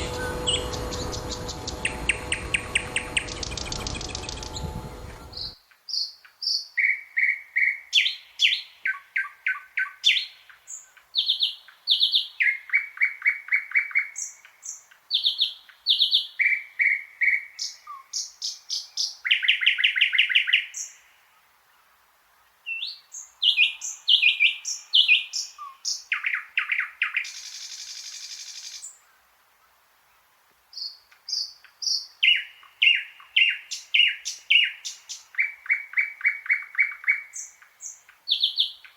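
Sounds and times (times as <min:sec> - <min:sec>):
nightingale singing: 0:00.0 - 0:21.2, 0:22.6 - 0:29.2, 0:30.7 - 0:38.9.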